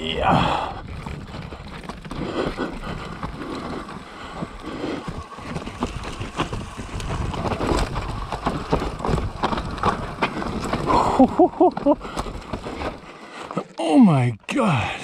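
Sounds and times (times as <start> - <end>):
bike clicks and clatters: 0.0 - 13.8
tyres rumbling over dirt and rock: 0.0 - 13.8.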